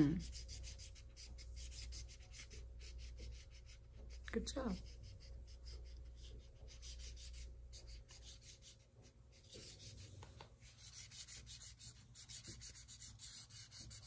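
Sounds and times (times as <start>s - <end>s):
marker scribbling on paper: 0.0s - 14.0s.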